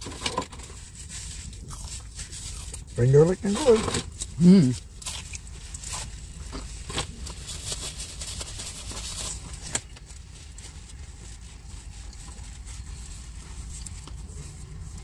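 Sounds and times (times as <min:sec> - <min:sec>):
food packaging rustling: 0:00.0 - 0:15.0
vehicle cabin hum: 0:00.0 - 0:15.0.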